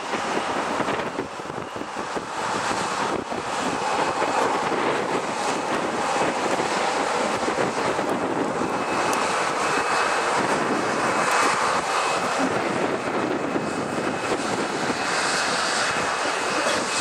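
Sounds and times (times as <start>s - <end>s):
jet engines at low thrust: 0.0s - 17.0s.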